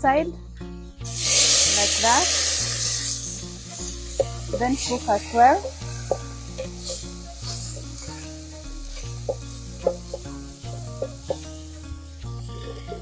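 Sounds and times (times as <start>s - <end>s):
soft background music: 0.0s - 13.0s
vegetables sizzling in oil: 1.0s - 13.0s.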